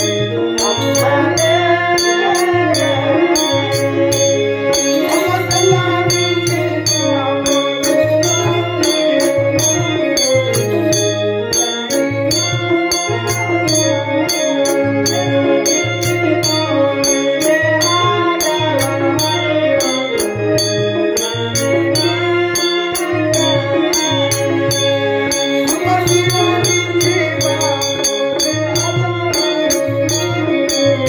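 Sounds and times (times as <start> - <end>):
melody: 0.0 - 31.0
sharp percussion beat: 0.0 - 31.0.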